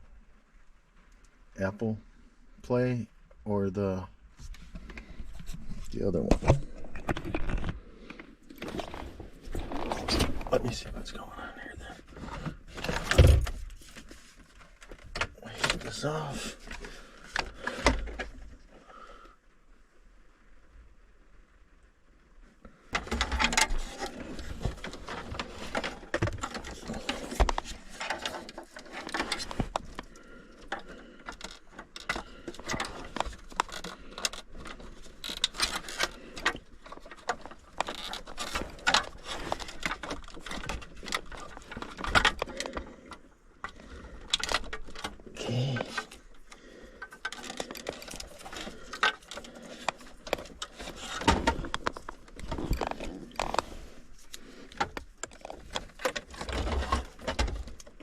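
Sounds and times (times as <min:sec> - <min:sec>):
plastic and metal parts rattling: 0:04.8 - 0:11.1, 0:12.0 - 0:18.6, 0:22.9 - 0:58.0.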